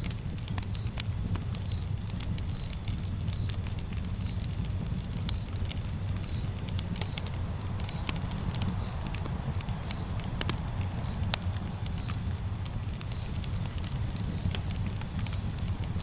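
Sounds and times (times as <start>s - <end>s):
burning wood crackling: 0.0s - 16.0s
steady low rumble: 0.0s - 16.0s.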